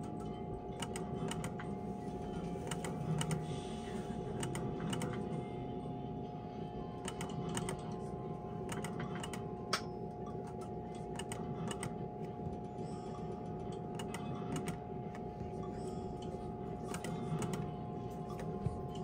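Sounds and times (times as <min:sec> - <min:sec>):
game machine reels clicking: 0:00.0 - 0:05.3, 0:07.0 - 0:19.0
steady electronic hum: 0:00.0 - 0:19.0.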